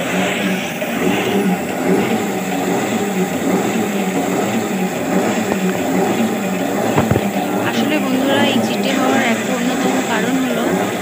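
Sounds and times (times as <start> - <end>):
thresher drum spinning drone: 0.0 - 11.0.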